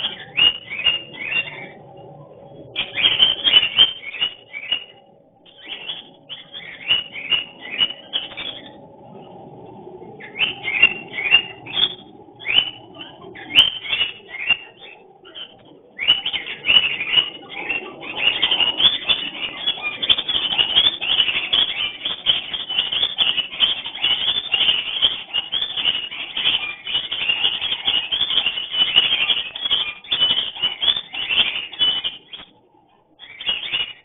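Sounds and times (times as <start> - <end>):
cockatiels chirping: 0.0 - 1.9, 2.7 - 8.8, 10.2 - 32.6, 33.2 - 34.0.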